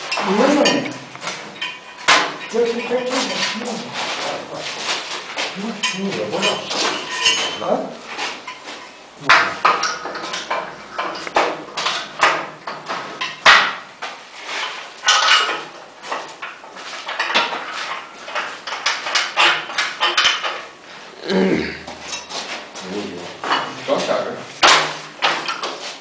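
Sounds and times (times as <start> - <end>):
metallic clanking and rattling: 0.0 - 20.8, 21.9 - 25.9.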